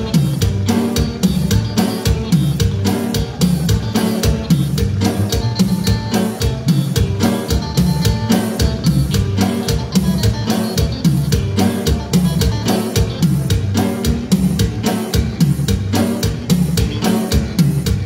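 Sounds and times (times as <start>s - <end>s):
dance band playing: 0.0s - 18.0s
driving drum-kit beat: 0.0s - 18.0s.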